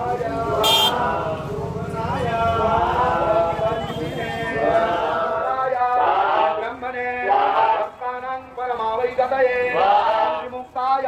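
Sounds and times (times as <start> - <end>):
man singing a chant: 0.0 - 11.0.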